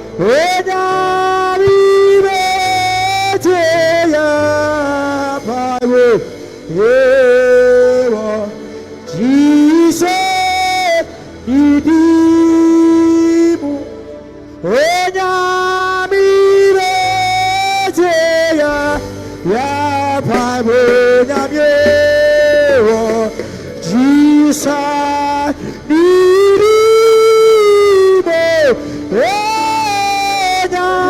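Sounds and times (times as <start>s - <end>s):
low sustained backing music: 0.0s - 31.0s
man singing worship song: 0.0s - 31.0s.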